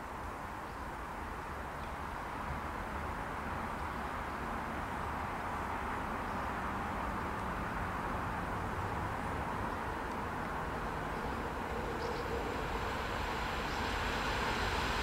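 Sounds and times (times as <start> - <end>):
train rumbling on track: 1.1 - 15.0.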